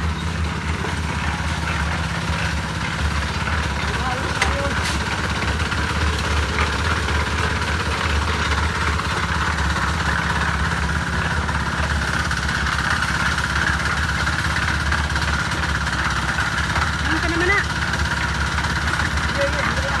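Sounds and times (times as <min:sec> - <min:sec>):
concrete mixer engine running: 0:00.0 - 0:20.0.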